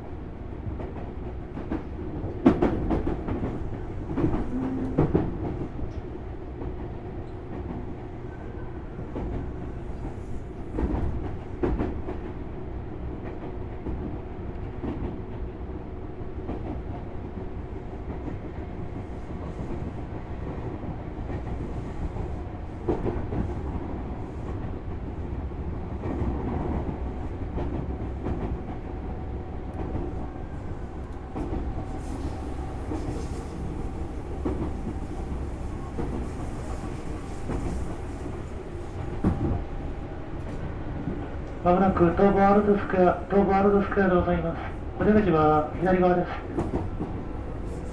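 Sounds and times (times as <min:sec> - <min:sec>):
electric train rumble and hum: 0:00.0 - 0:47.9.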